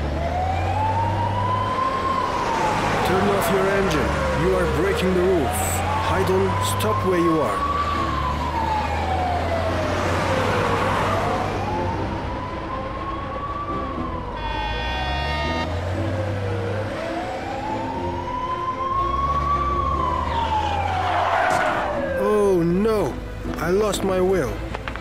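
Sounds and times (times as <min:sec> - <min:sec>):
police siren wailing: 0:00.0 - 0:24.5.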